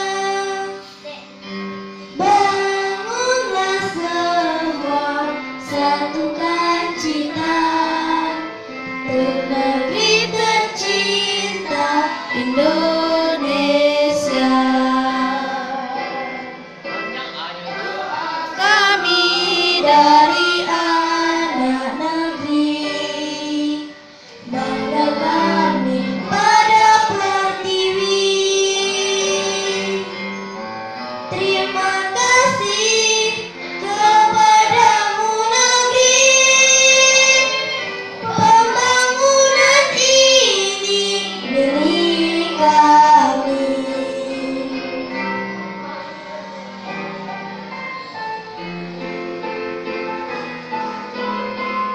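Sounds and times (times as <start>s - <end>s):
girl singing into microphone: 0.0s - 16.7s, 17.6s - 30.6s, 31.3s - 48.2s.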